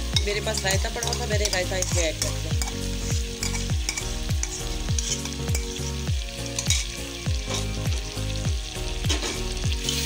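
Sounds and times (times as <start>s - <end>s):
meat and spices sizzling: 0.0s - 10.0s
music with thumping beat: 0.0s - 10.0s.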